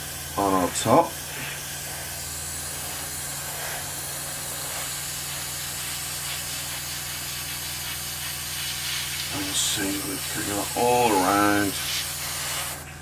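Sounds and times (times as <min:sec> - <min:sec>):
airbrush spraying hiss: 0:00.0 - 0:13.0.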